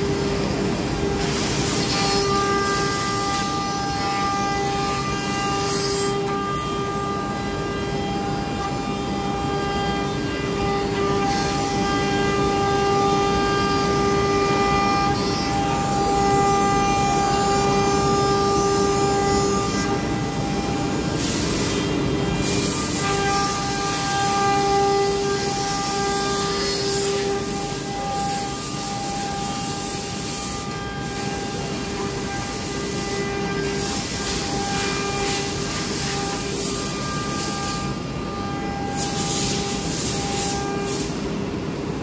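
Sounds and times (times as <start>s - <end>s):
cnc router spindle whine: 0.0s - 42.0s.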